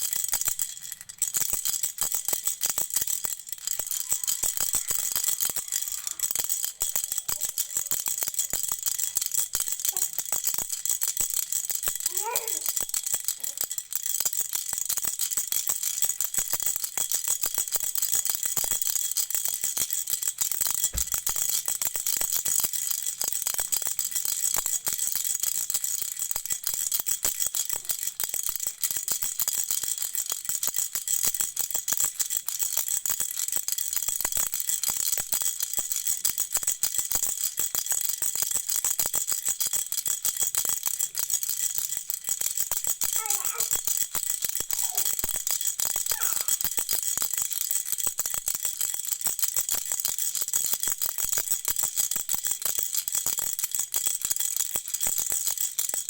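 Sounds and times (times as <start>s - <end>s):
toy rattle shaken: 0.0s - 56.0s.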